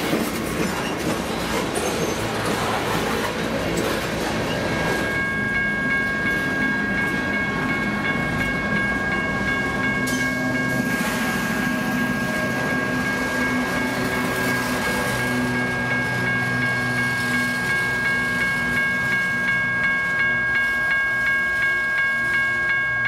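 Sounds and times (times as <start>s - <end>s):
diesel locomotive engine hum: 0.0s - 23.0s.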